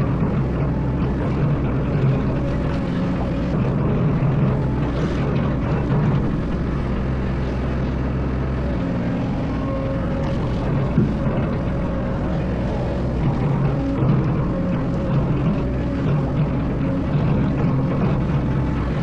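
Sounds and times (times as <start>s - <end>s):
excavator diesel engine droning: 0.0s - 19.0s.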